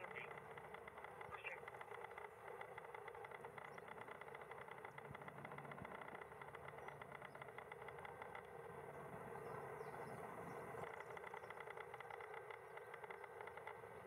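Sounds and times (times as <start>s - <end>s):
helicopter rotor beat: 0.0s - 14.0s
turbine engines humming: 0.0s - 14.0s.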